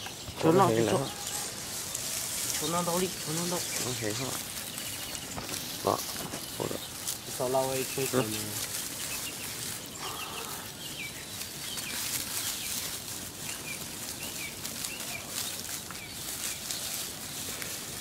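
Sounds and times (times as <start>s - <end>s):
sheep chewing dry straw: 0.0s - 18.0s
small birds chirping: 0.0s - 18.0s.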